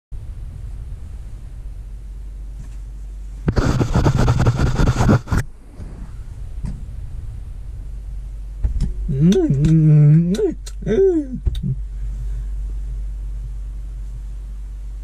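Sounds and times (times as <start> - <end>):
low rumble in car cabin: 0.1 - 15.0.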